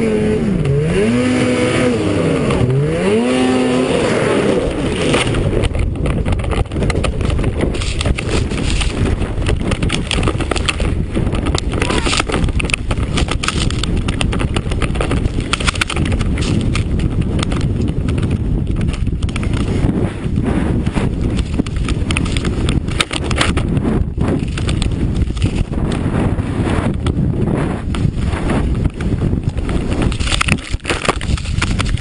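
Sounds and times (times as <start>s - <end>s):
snowmobile engine and track: 0.0s - 32.0s
wind buffeting microphone: 0.0s - 32.0s.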